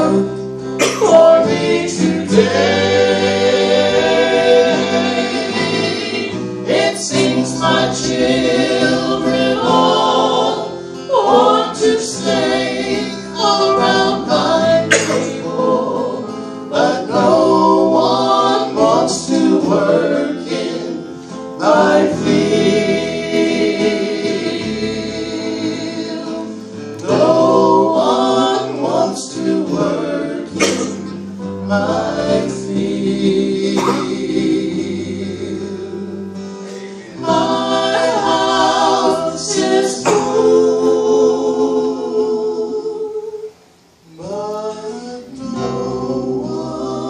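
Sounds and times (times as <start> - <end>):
keyboard: 0.0 - 43.0
acoustic guitar: 0.0 - 47.0
group singing in harmony: 0.0 - 47.0.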